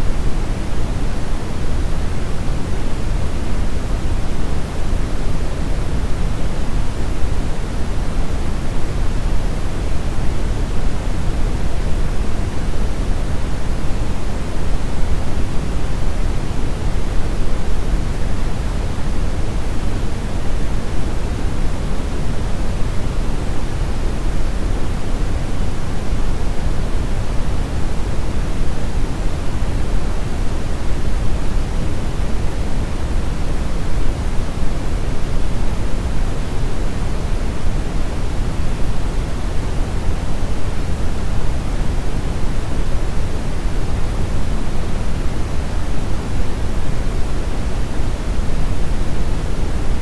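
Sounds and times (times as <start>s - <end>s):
brown noise hiss: 0.0s - 50.0s.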